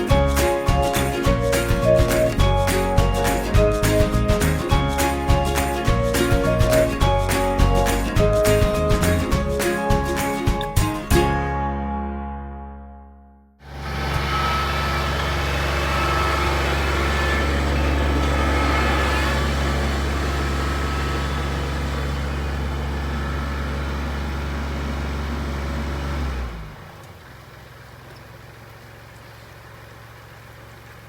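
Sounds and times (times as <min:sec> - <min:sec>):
tractor diesel engine running: 0:00.0 - 0:11.7, 0:13.6 - 0:31.0.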